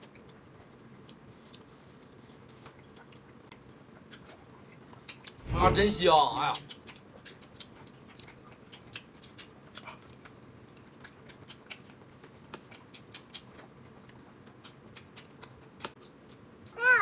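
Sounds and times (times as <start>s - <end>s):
person chewing with wet smacks: 0.0s - 5.4s, 6.4s - 16.8s.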